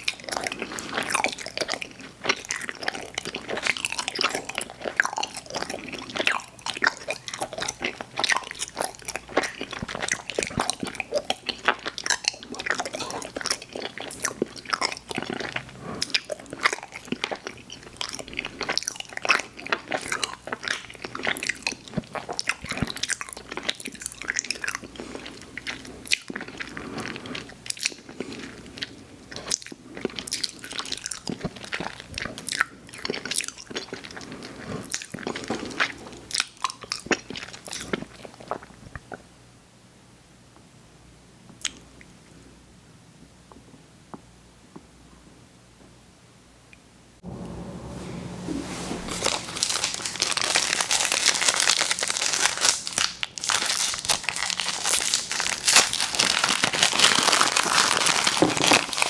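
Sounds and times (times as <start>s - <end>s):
chewing chewy candy: 0.0s - 39.3s, 49.2s - 59.0s.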